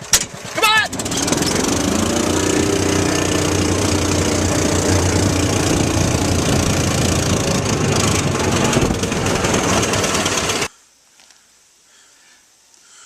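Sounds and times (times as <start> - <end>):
motor engine running: 0.2 - 10.7.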